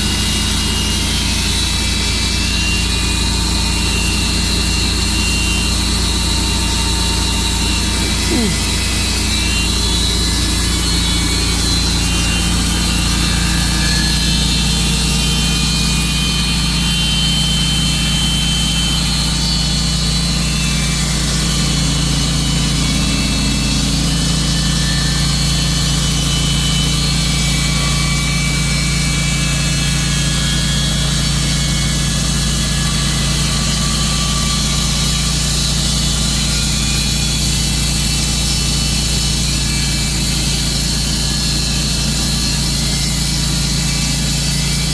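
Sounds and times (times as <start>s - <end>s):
saw blade cutting log: 0.0s - 44.9s
sawmill engine running: 0.0s - 44.9s.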